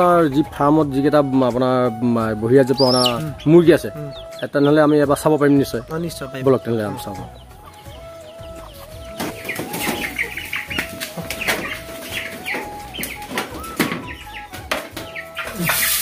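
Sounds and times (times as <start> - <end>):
background music melody: 0.0 - 16.0
chickens clucking and chirping: 0.0 - 16.0.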